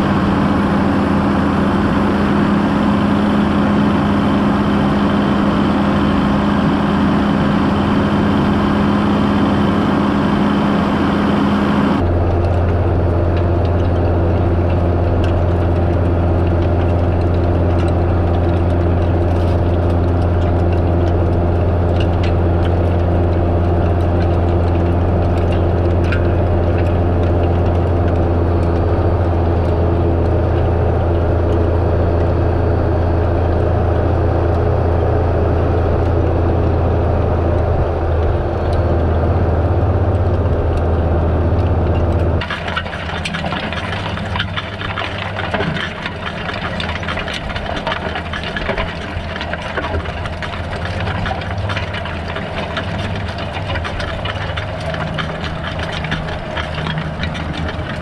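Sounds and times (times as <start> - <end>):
soil crackling through cultivator: 0.0 - 58.0
tractor engine low drone: 0.0 - 58.0.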